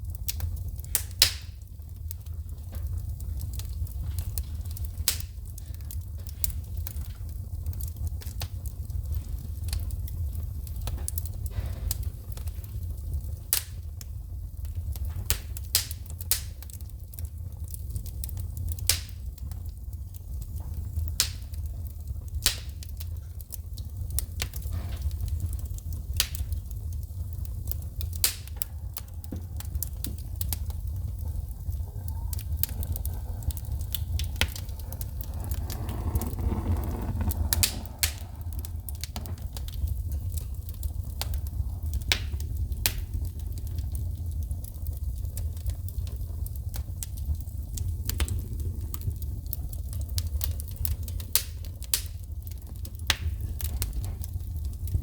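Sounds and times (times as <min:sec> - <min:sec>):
low rumble of flames: 0:00.0 - 0:55.0
wood fire popping and crackling: 0:00.0 - 0:55.0.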